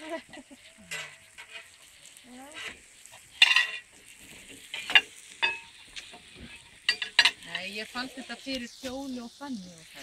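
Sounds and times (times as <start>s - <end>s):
food sizzling on a griddle: 0.0s - 10.0s
metal utensils scraping and clinking: 0.6s - 8.7s.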